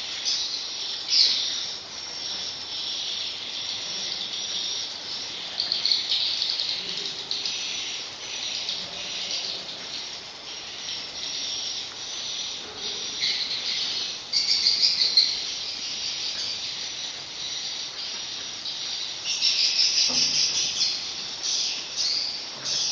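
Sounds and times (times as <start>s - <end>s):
swiftlet calls chittering: 0.0s - 22.9s.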